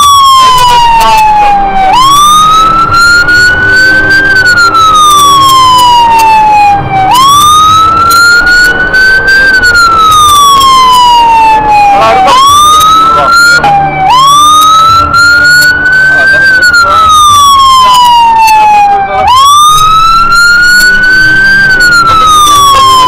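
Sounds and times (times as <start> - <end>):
fire engine siren wailing: 0.0 - 23.0.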